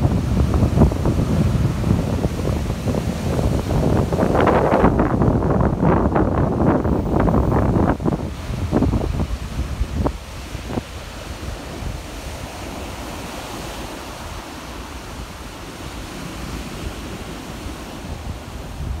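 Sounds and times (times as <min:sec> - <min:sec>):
waves washing up pebble beach: 0:00.0 - 0:19.0
wind buffeting microphone: 0:00.0 - 0:19.0.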